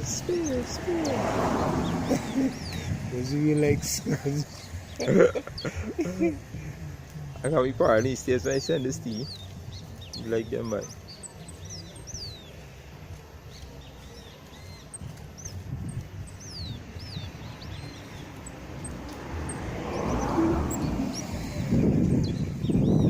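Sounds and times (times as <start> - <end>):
finch singing: 0.0 - 23.0.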